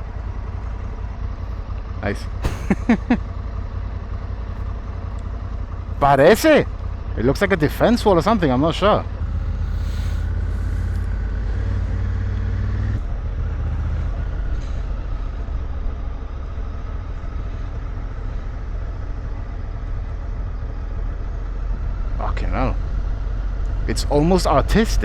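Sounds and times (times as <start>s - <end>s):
motorcycle engine rumble: 0.0s - 25.0s.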